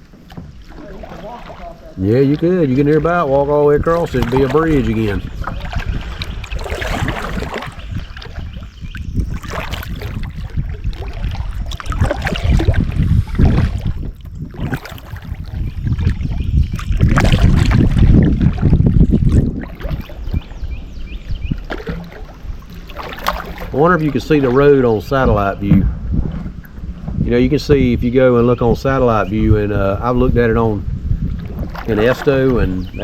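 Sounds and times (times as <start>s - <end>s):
paddle strokes in water: 0.0s - 27.4s, 30.8s - 33.0s
wind gusting on microphone: 0.0s - 33.0s.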